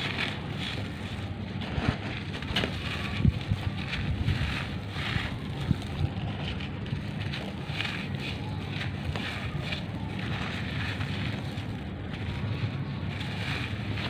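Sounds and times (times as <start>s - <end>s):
charcoal powder pouring: 0.0s - 14.0s
wind rumble on microphone: 0.0s - 14.0s.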